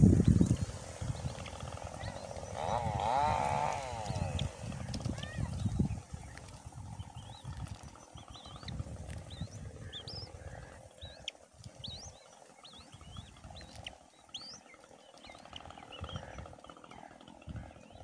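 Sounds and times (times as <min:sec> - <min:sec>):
high chirping bird calls: 0:00.2 - 0:18.0.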